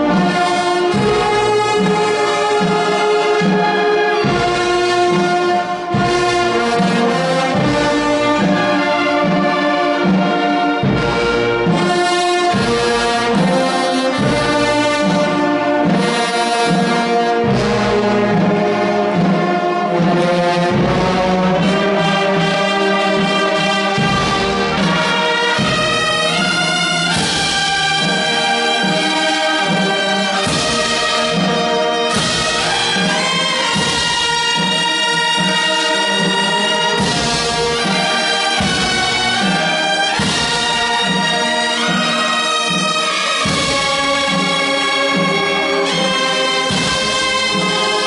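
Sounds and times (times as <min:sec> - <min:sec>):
wind band playing chords: 0:00.0 - 0:48.0.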